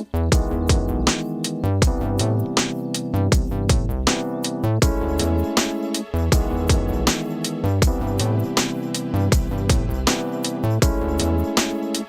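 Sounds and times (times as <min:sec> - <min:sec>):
background music with plucked strings: 0:00.0 - 0:12.0.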